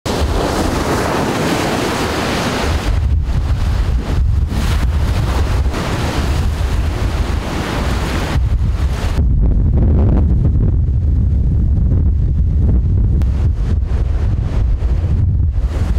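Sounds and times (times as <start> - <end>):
surf breaking on rocky shore: 0.1 - 9.3, 12.1 - 15.9
wind gusting against microphone: 0.1 - 15.9.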